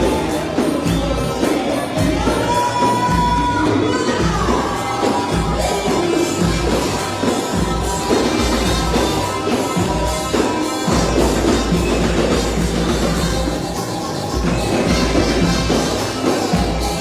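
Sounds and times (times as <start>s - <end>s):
band music with drums: 0.0s - 17.0s
heavy steady bass line: 0.0s - 17.0s.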